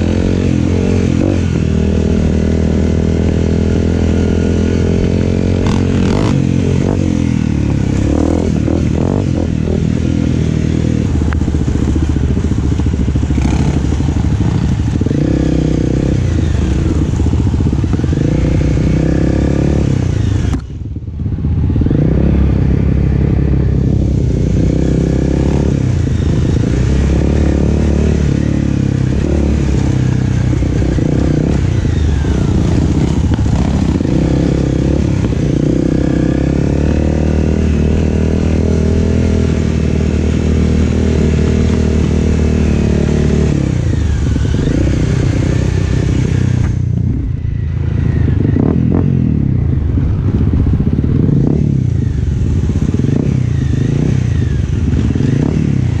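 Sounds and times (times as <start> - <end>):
off-road vehicle engine revving: 0.0 - 20.7, 21.7 - 56.0.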